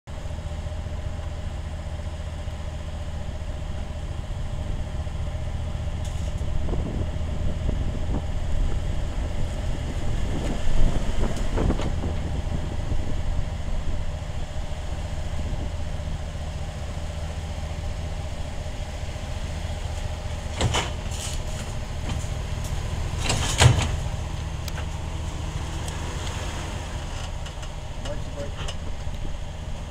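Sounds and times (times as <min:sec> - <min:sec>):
car engine running at low speed: 0:00.0 - 0:29.9.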